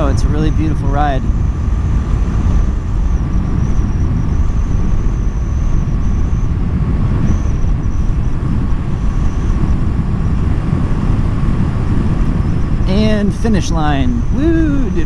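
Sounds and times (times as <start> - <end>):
road noise: 0.0 - 15.0
wind rushing on microphone: 0.0 - 15.0.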